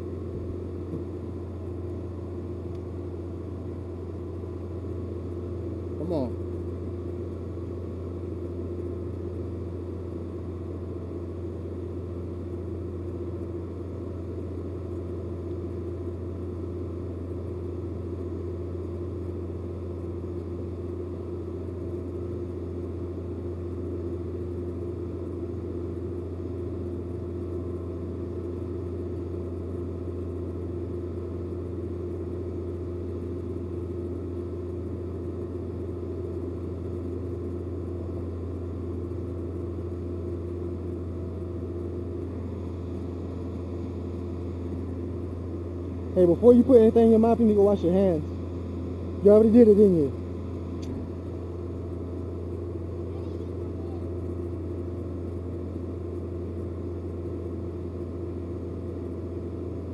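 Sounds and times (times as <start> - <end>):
low mechanical drone: 0.0 - 59.9.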